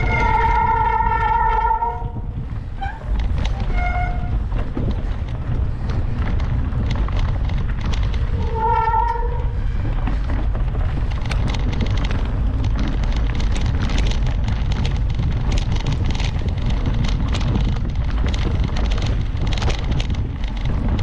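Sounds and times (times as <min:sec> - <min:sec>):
bike knocks and rattles: 0:00.0 - 0:21.0
wind and tyres rumbling: 0:00.0 - 0:21.0.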